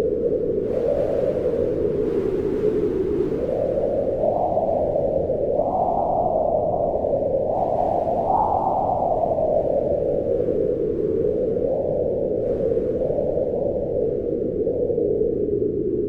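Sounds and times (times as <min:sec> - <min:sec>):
wind blowing in gusts: 0:00.0 - 0:16.0.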